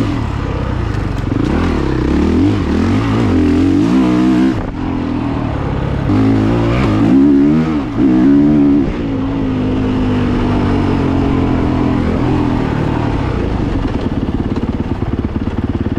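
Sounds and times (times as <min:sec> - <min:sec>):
dirt bike engine revving: 0:00.0 - 0:15.9.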